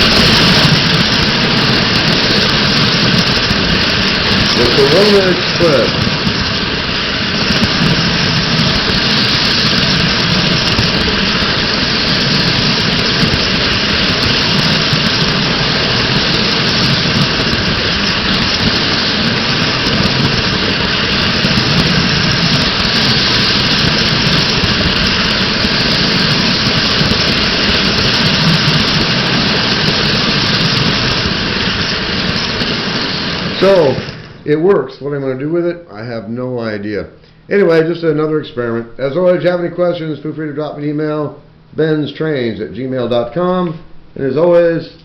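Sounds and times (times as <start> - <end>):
model train wheels and motor rumbling: 0.0 - 45.0.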